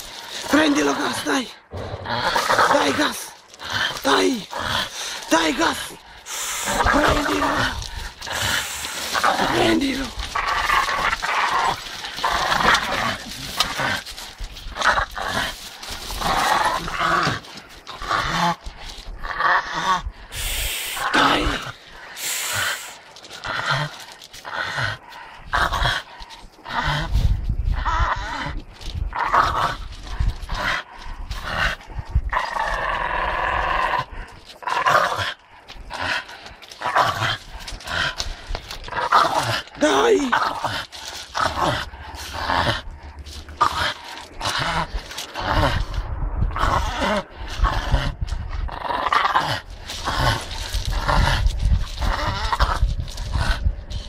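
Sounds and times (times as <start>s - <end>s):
dogs growling: 0.0s - 54.0s.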